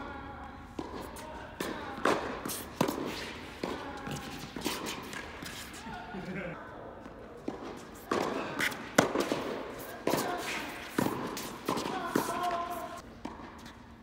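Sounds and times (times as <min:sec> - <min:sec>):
tennis ball hit by racquets: 0:00.6 - 0:06.1, 0:07.3 - 0:13.8.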